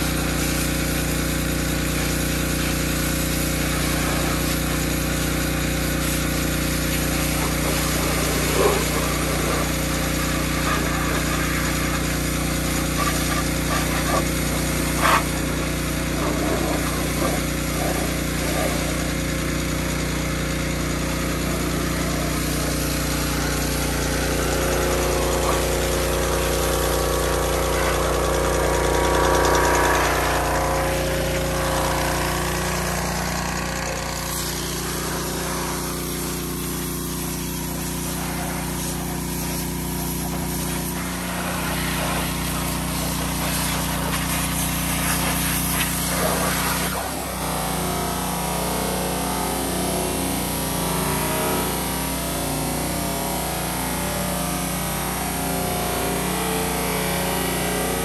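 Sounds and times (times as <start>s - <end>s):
machine humming and whining: 0.0s - 58.0s.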